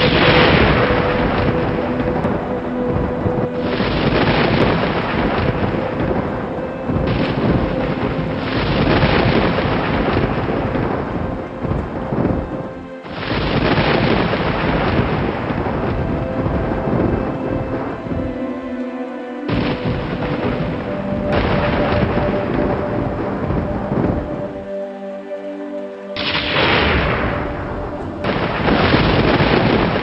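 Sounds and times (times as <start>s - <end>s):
thunder rumbling: 0.0s - 24.8s, 26.2s - 30.0s
soft ambient music: 0.0s - 30.0s
steady rain: 0.0s - 30.0s.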